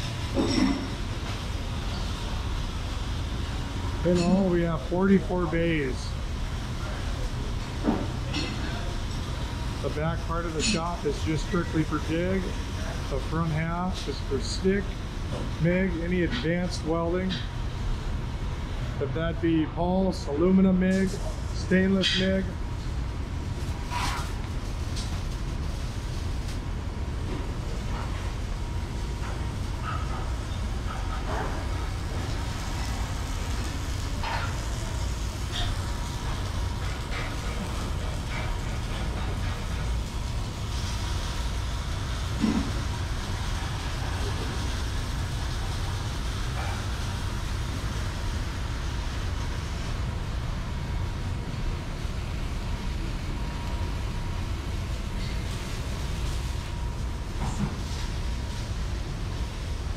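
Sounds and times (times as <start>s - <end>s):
fume extraction running: 0.0s - 59.9s
welding shop low rumble: 0.0s - 59.9s.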